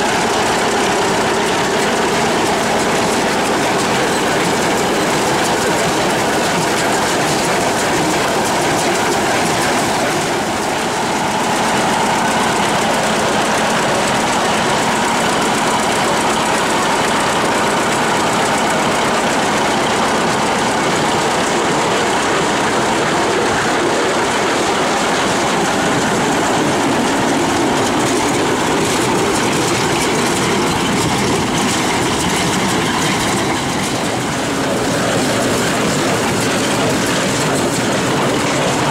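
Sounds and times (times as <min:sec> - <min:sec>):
harvest machinery clattering: 0:00.0 - 0:38.9.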